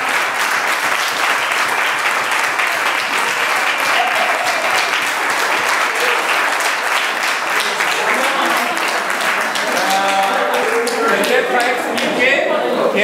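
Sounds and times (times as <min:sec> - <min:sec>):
people applauding: 0:00.0 - 0:12.5.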